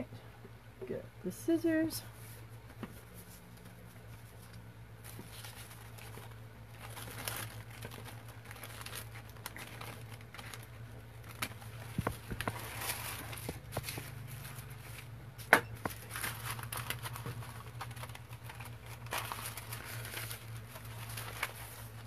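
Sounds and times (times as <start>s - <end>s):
low steady hum: 0.0s - 22.0s
paper rustling and crinkling: 2.2s - 22.0s.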